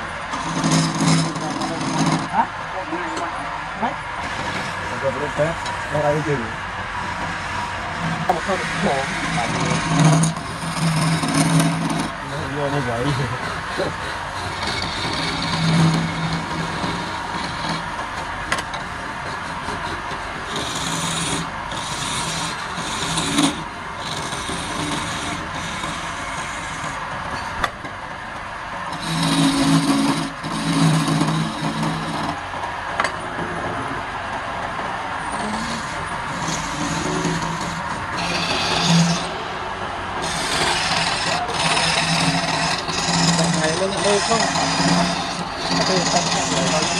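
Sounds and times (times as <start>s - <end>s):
chisel scraping spinning wood: 0.0s - 3.4s, 4.2s - 28.0s, 28.8s - 33.2s, 35.2s - 46.9s.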